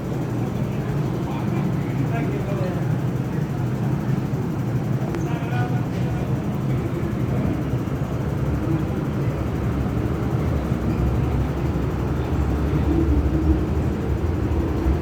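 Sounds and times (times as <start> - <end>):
electric train low rumble: 0.0 - 15.0.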